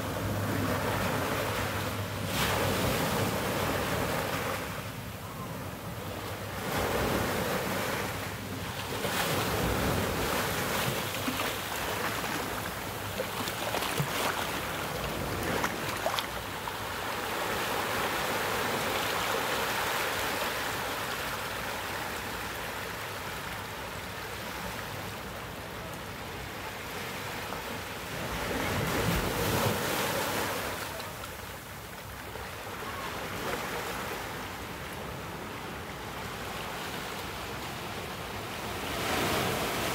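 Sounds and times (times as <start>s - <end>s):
ocean waves breaking over rocks: 0.0s - 39.9s.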